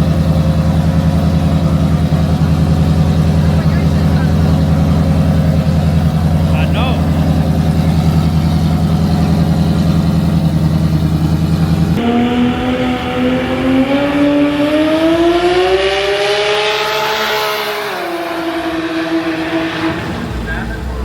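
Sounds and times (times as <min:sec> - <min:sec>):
car engine rumbling: 0:00.0 - 0:21.0
engine accelerating: 0:00.0 - 0:21.0.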